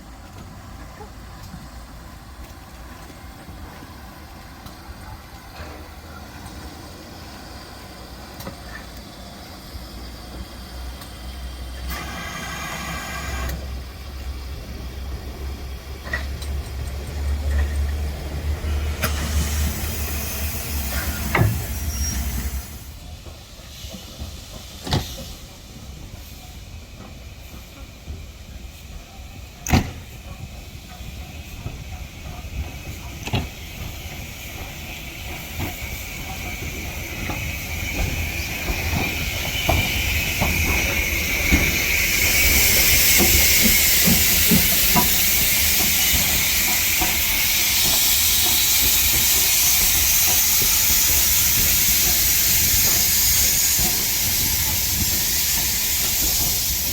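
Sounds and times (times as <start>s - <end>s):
steam hiss: 0.0s - 56.9s.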